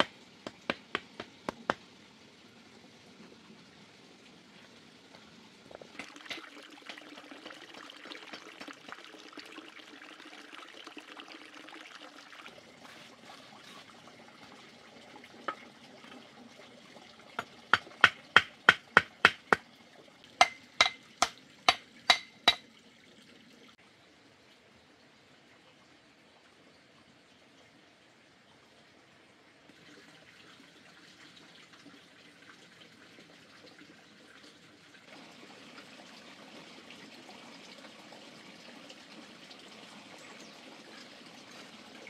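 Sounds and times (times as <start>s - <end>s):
water trickling: 0.0s - 42.0s.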